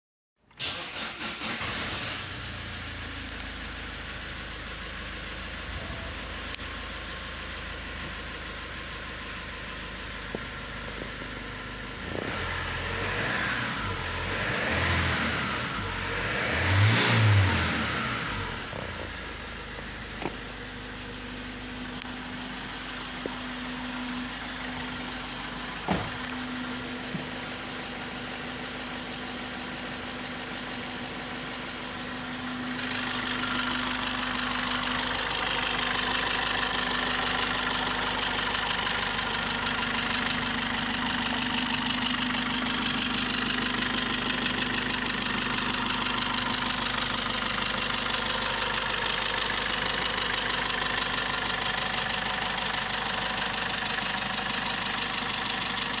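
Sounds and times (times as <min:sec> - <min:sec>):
diesel engine idling: 0:00.7 - 0:56.0.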